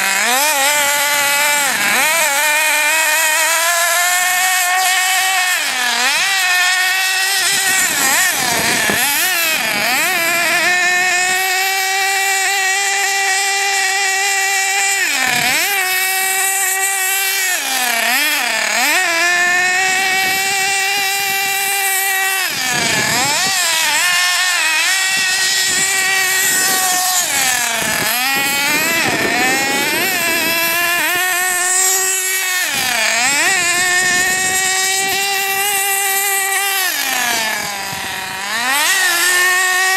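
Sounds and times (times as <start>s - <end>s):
small nitro engine whining: 0.0s - 39.9s.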